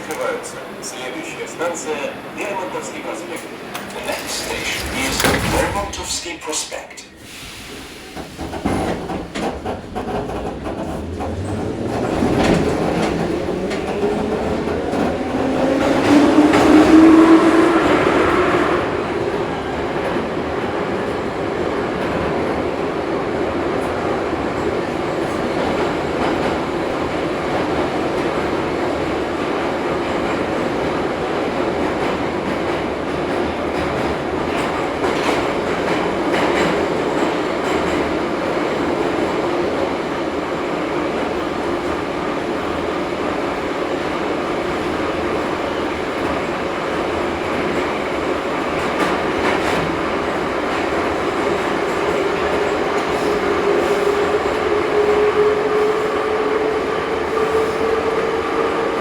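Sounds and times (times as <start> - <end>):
metro train wheels rumbling: 0.0 - 59.0.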